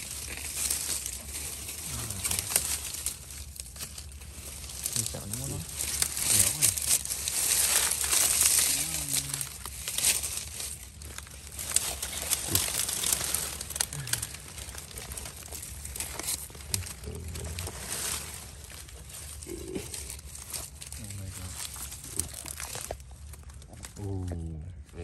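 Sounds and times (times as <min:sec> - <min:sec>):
dry grass rustling and crackling: 0:00.0 - 0:25.0
earth scraping and crunching: 0:00.0 - 0:25.0.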